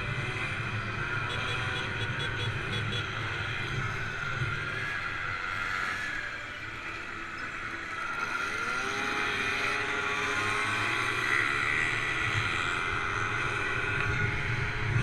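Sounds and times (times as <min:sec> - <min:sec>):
motorcycle engine accelerating: 0:00.0 - 0:15.0
road and wind noise: 0:00.0 - 0:15.0.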